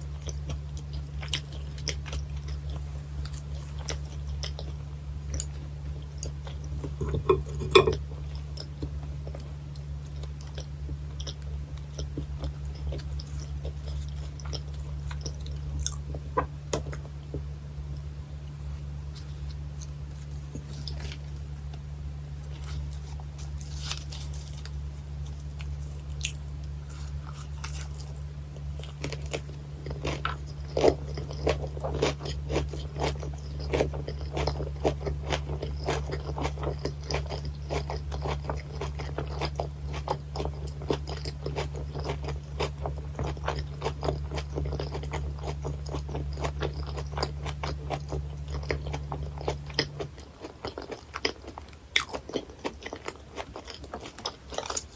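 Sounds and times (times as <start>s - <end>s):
crunchy chewing: 0.0s - 54.9s
steady low hum: 0.0s - 54.9s.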